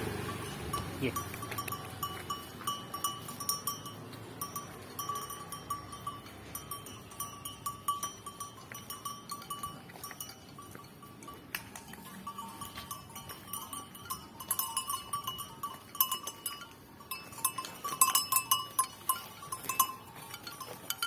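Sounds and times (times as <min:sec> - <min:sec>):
small metal bell clinking: 0:00.0 - 0:21.0.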